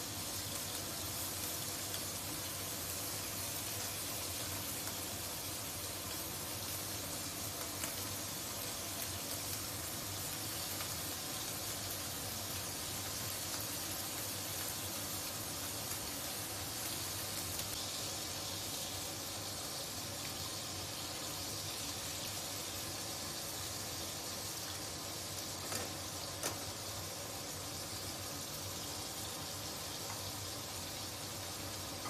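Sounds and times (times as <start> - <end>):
sausage sizzling in a wok: 0.0 - 32.0.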